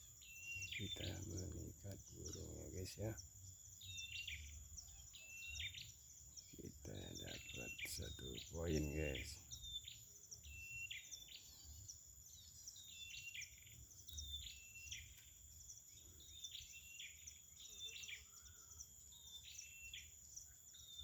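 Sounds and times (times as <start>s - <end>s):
high insect drone: 0.0s - 21.0s
small bird chirping: 0.0s - 21.0s.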